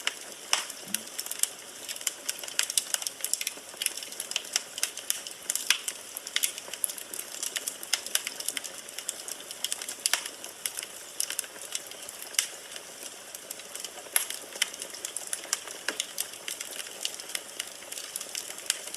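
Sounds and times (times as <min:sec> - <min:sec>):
fire hissing softly: 0:00.0 - 0:18.9
logs crackling and popping: 0:00.0 - 0:18.9.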